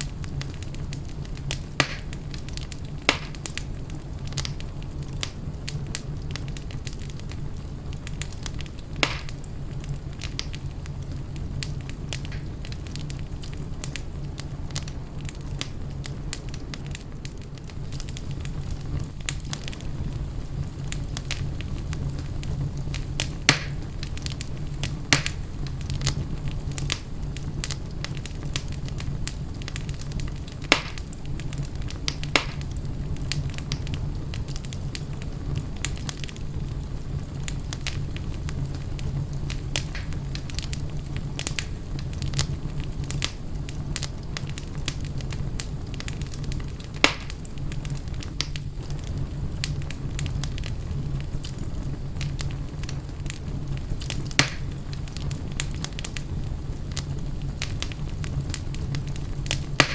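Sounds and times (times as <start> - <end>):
fire pops: 0.0 - 59.9
low fire rumble: 0.0 - 59.9
wood fire crackling: 0.0 - 59.9.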